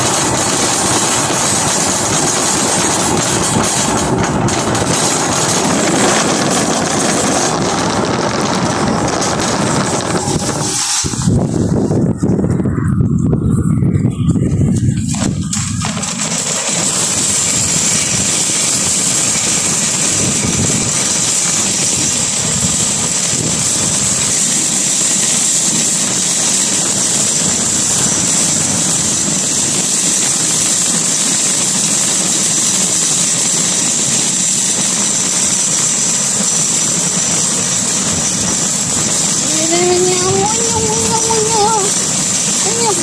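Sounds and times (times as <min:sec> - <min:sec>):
loud rushing noise with hiss: 0:00.0 - 0:43.0.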